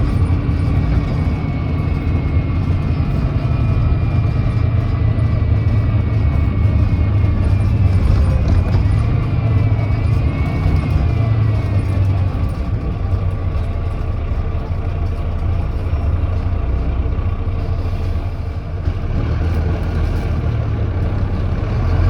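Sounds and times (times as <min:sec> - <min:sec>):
diesel bus engine droning: 0:00.0 - 0:22.0.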